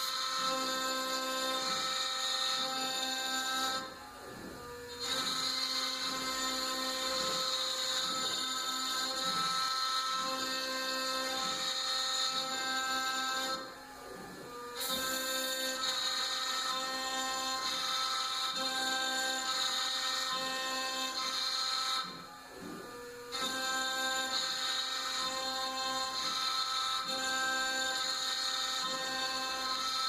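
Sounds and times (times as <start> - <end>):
router spindle whining: 0.0 - 30.0.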